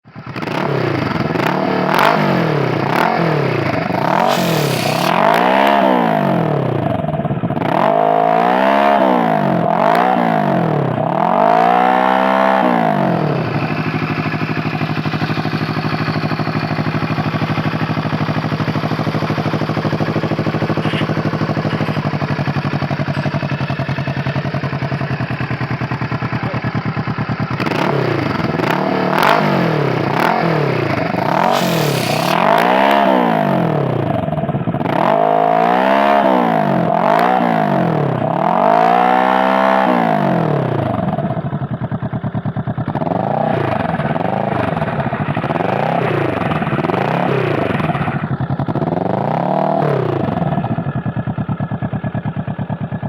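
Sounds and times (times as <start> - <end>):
motorcycle engine idling: 0.0 - 53.0
motorcycle engine revving: 0.0 - 53.0.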